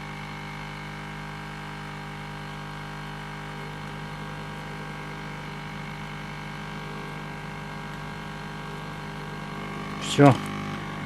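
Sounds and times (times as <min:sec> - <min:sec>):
steady motor hum: 0:00.0 - 0:11.0
hot-air station blowing: 0:01.8 - 0:11.0.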